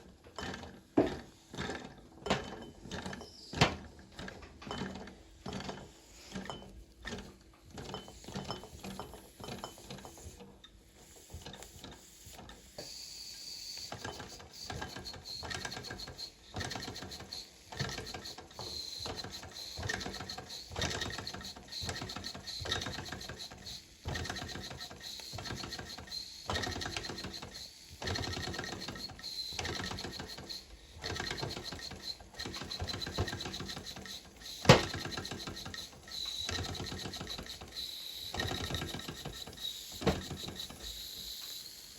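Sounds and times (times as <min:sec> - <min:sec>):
toy steam engine clatter: 0:04.2 - 0:12.8, 0:13.4 - 0:41.9.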